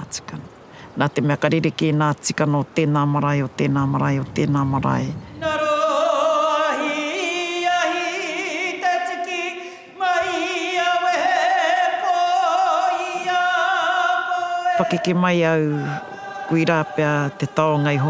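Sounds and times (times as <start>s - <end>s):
woman singing a chant: 0.0s - 18.0s.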